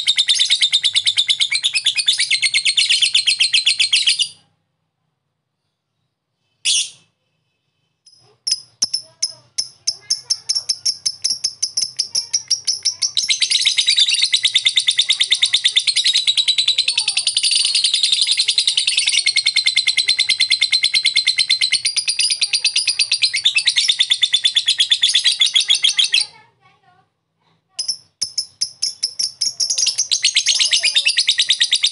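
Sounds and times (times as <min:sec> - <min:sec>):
bird chirping and trilling: 0:00.0 - 0:04.4, 0:05.6 - 0:26.4, 0:27.8 - 0:31.9.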